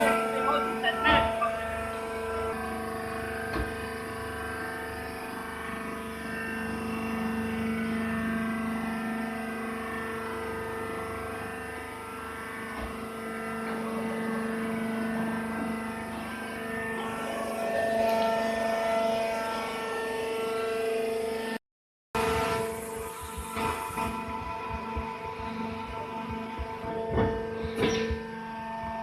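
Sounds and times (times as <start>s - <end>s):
baling machine humming: 0.0s - 21.6s, 22.2s - 29.0s.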